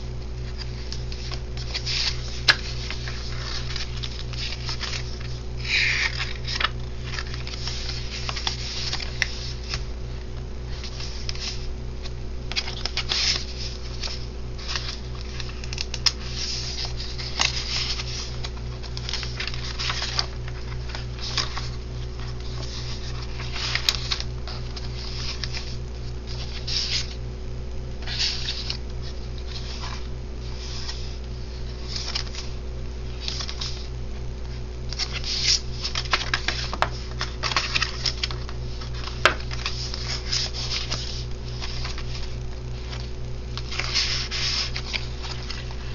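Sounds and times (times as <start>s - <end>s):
steady low hum: 0.0s - 45.9s
paper pages rustling: 0.4s - 27.2s, 28.0s - 45.9s.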